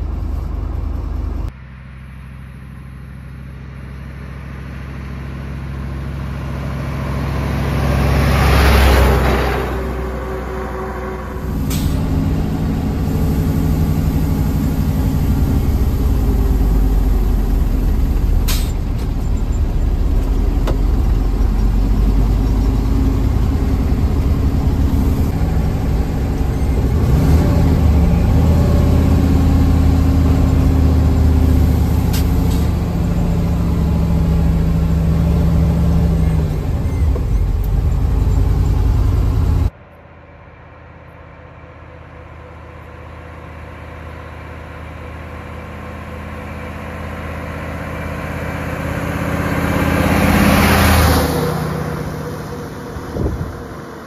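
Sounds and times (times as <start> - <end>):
diesel truck engine pulling: 0.0 - 39.8, 41.4 - 54.0.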